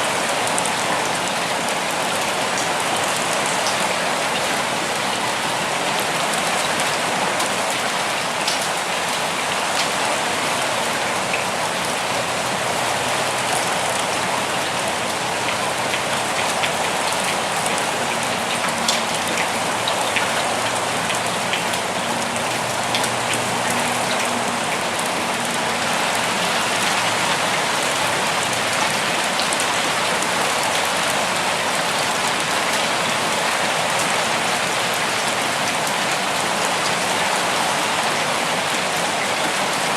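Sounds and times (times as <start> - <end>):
steady rain: 0.0 - 39.9
raindrops ticking close by: 0.1 - 10.3, 10.9 - 39.9.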